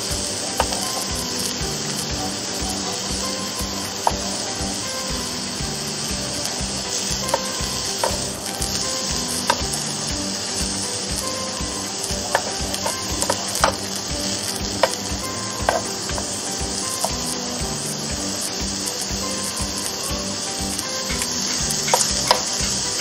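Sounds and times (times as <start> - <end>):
vegetables sizzling on grill: 0.0 - 23.0.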